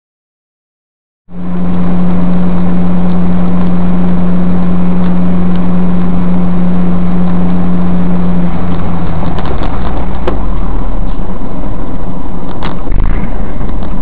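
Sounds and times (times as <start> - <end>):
car engine and road noise: 1.3 - 14.0
low drone: 1.3 - 14.0.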